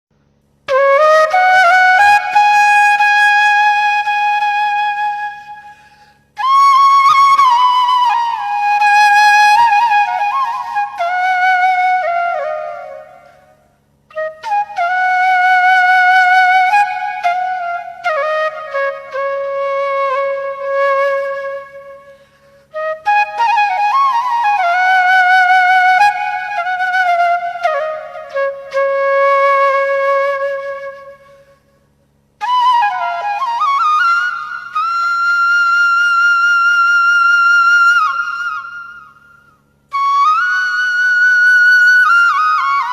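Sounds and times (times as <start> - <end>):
solo flute melody: 0.6 - 42.9.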